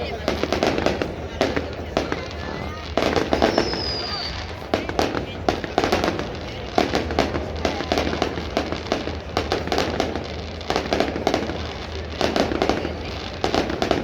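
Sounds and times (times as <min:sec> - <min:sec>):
fireworks cracks and bangs: 0:00.0 - 0:14.0
heavy fireworks booms: 0:00.0 - 0:14.0.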